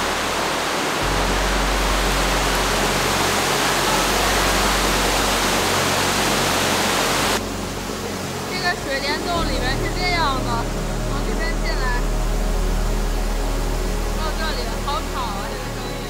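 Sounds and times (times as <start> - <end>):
water rushing and falling in cave: 0.0 - 16.0.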